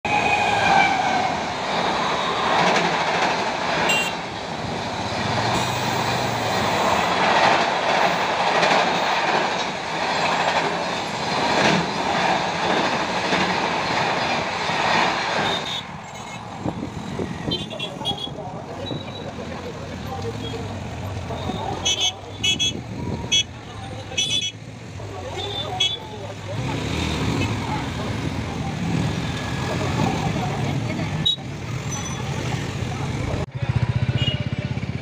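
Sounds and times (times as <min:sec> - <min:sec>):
train rumbling over bridge: 0:00.0 - 0:35.0.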